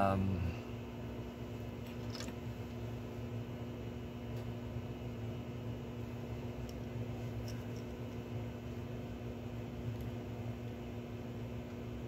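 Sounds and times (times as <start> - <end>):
electric motor hum and whir: 0.0 - 12.0.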